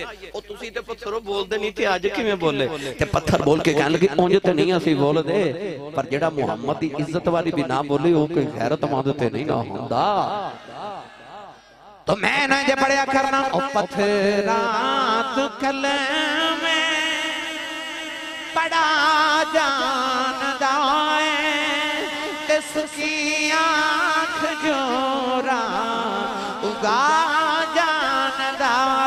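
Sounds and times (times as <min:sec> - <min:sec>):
man singing devotional song: 0:00.0 - 0:29.0.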